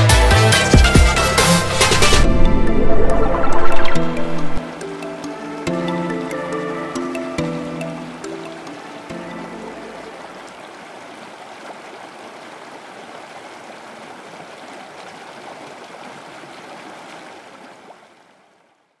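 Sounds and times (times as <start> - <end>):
river water rushing over rapids: 2.1 - 18.5.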